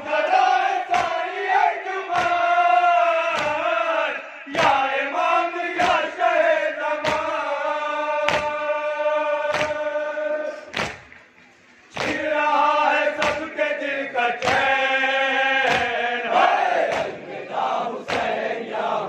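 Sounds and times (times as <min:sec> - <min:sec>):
men chanting a lament in unison: 0:00.0 - 0:10.8, 0:11.9 - 0:19.0.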